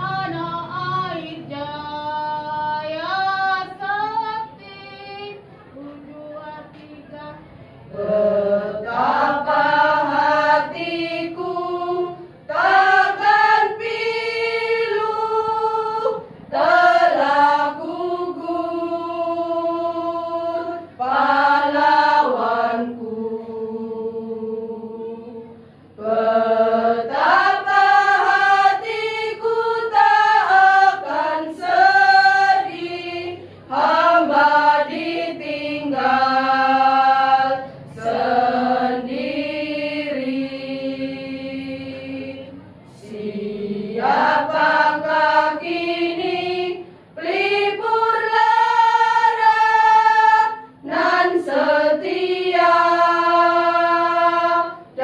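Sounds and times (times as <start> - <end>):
women's choir singing in harmony: 0.0 - 55.0.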